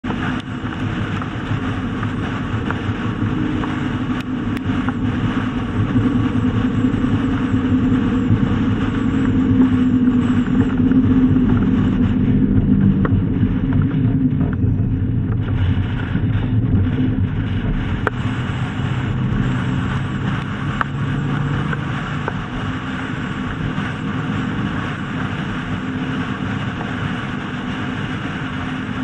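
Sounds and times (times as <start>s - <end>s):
truck road and engine noise: 0.0s - 29.0s
wind rushing over microphone: 0.0s - 29.0s.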